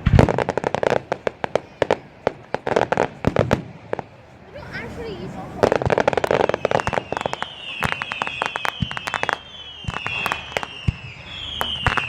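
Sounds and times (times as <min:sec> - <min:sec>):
fireworks bangs: 0:00.0 - 0:12.0
fireworks crackling: 0:00.0 - 0:12.0
whistling fireworks: 0:00.0 - 0:12.0.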